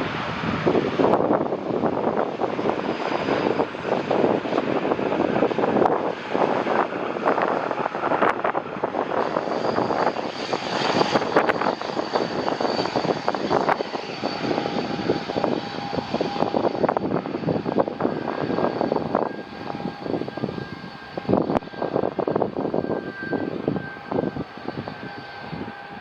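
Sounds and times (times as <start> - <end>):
high engine whine: 0.0 - 26.0
jet engine noise: 0.0 - 26.0.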